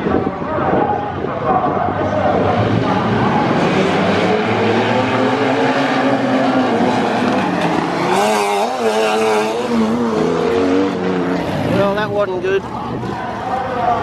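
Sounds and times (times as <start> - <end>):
race car engines racing: 0.0 - 14.0.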